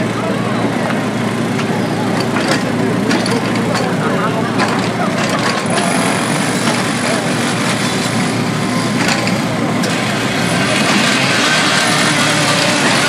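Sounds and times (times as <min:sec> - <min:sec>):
excavator engine running: 0:00.0 - 0:13.0
street noise: 0:00.0 - 0:13.0.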